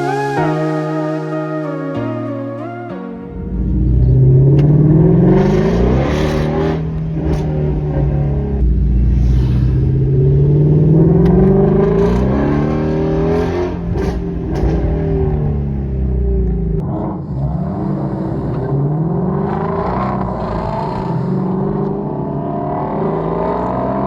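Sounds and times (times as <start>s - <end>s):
car engine accelerating: 3.2s - 24.0s.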